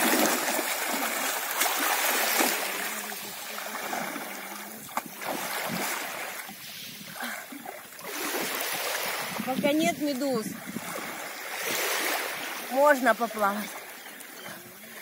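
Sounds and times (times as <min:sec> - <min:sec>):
person wading through water: 0:00.0 - 0:15.0
swimming strokes sloshing: 0:00.0 - 0:15.0.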